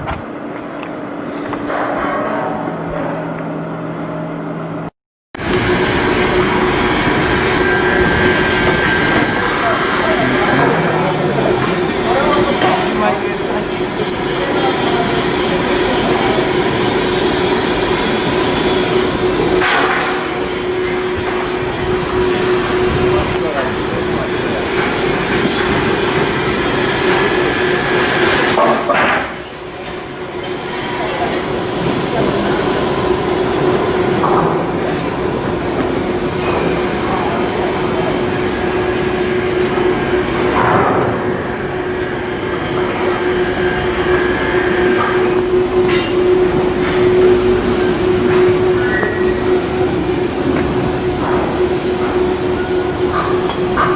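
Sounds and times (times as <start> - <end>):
constant hum: 0.0 - 53.9
machinery drone: 0.0 - 53.9.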